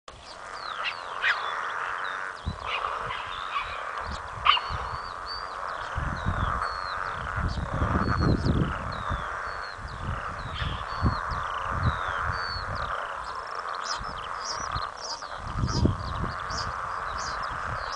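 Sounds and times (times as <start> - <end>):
frogs croaking chorus: 0.1 - 17.9
birds chirping and whistling: 0.2 - 17.9.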